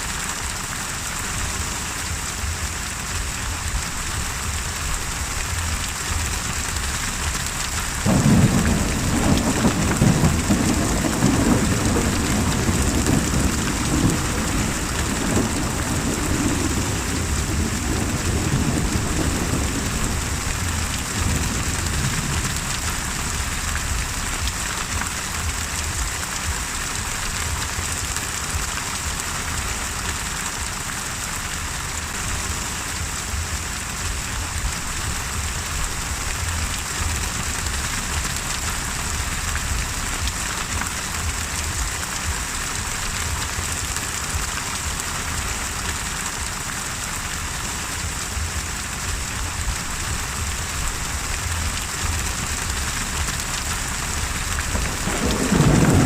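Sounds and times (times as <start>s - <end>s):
heavy rain: 0.0s - 56.0s
low rumble: 2.0s - 29.2s, 32.1s - 45.0s, 48.1s - 56.0s.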